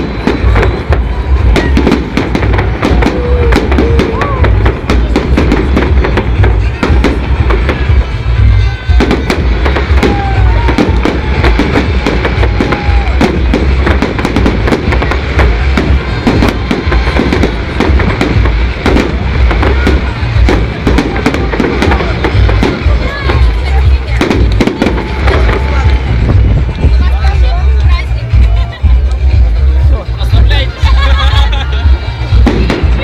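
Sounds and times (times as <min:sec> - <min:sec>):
fireworks bangs and crackles: 0:00.0 - 0:33.0
music playing: 0:00.0 - 0:33.0.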